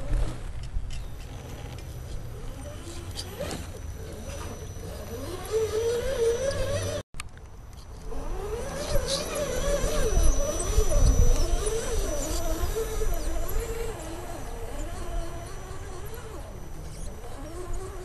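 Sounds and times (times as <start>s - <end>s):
rc car motor and gears whining: 0.0s - 7.0s, 7.6s - 18.0s.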